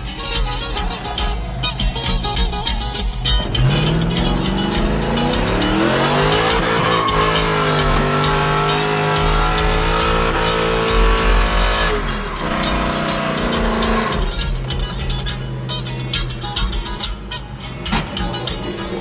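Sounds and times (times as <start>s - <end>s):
music: 0.0s - 19.0s
truck engine revving: 0.0s - 19.0s
tyres squealing: 0.0s - 19.0s.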